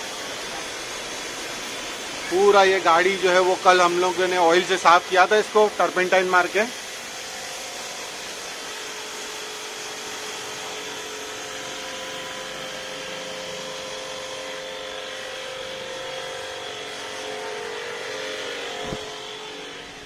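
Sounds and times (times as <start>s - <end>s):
high-pressure water jet hissing: 0.0s - 20.0s
pressure washer motor whine: 0.0s - 20.0s.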